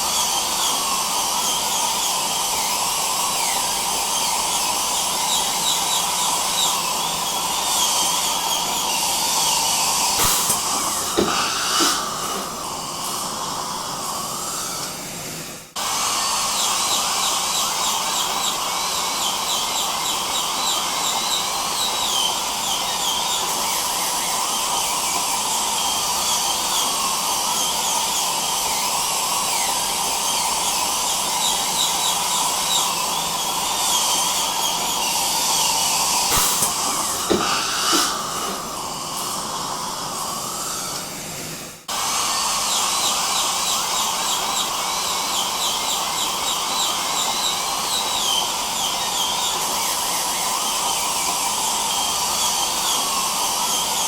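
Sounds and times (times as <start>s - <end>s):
dental drill whining: 0.0s - 54.0s
dental suction hiss: 0.1s - 28.6s, 29.2s - 41.3s, 41.9s - 54.0s.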